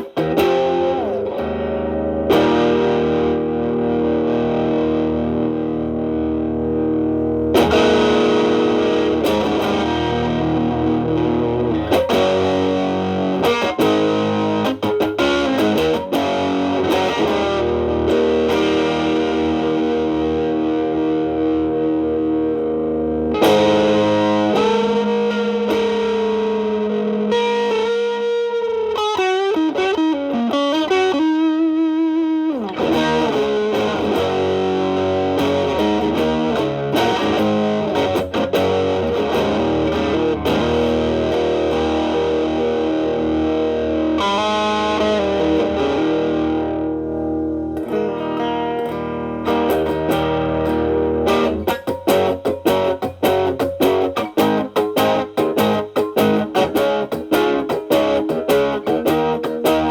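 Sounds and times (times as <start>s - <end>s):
distorted electric guitar blues lead: 0.0s - 59.9s
strummed guitar chords: 0.0s - 59.9s.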